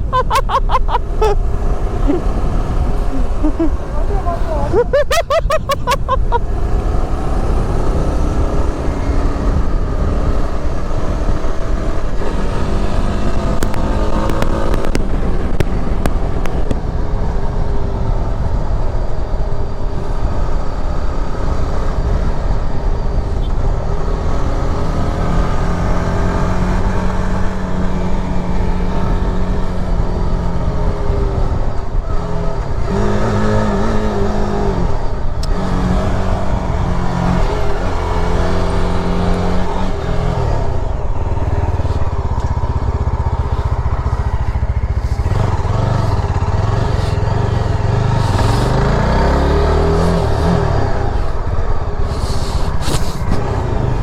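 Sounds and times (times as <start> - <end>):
motorcycle engine revving: 0.0 - 17.3, 23.6 - 54.0.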